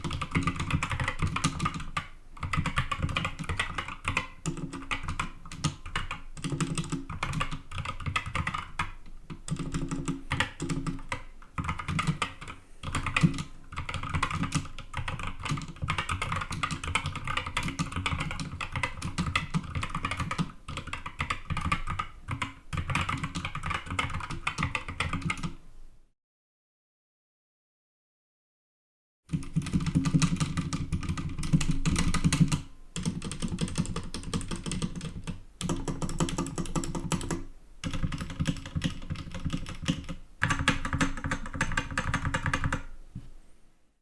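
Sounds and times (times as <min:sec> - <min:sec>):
fast keyboard typing: 0:00.0 - 0:25.6, 0:29.3 - 0:42.9.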